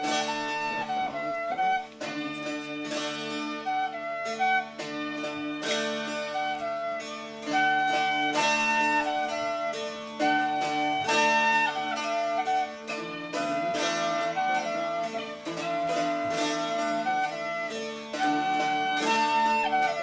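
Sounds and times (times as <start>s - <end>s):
bouzoukis strumming: 0.0s - 20.0s
tin whistle melody: 0.0s - 20.0s.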